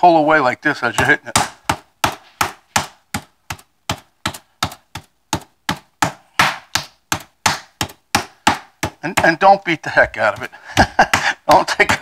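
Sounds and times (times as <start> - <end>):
meat mallet pounding meat: 0.9 - 12.0.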